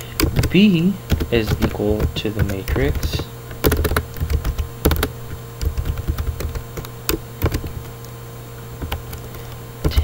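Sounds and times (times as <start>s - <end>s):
computer keyboard typing: 0.1s - 8.0s, 8.8s - 10.0s.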